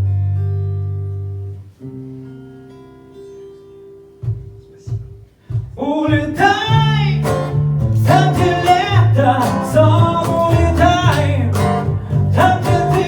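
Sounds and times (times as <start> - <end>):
guitar chords ringing: 0.0 - 4.5, 6.4 - 13.0.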